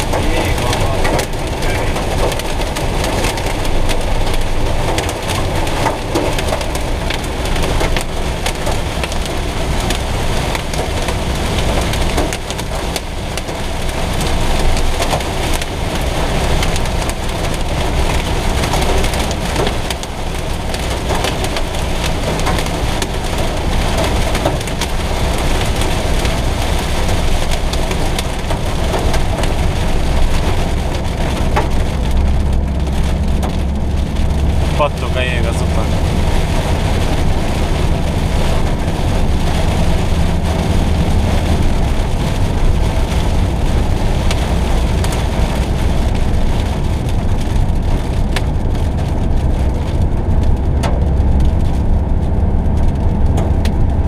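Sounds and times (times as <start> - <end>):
heavy rain drumming on windshield: 0.0 - 54.0
tyres rumbling on wet road: 0.0 - 54.0.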